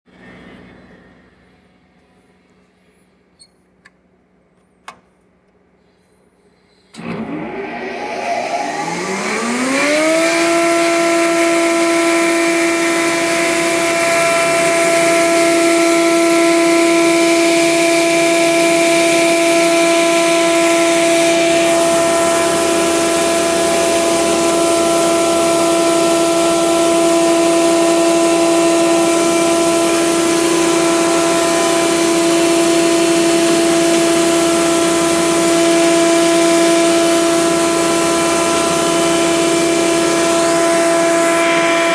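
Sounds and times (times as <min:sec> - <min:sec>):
planer motor whining: 0:06.9 - 0:41.9.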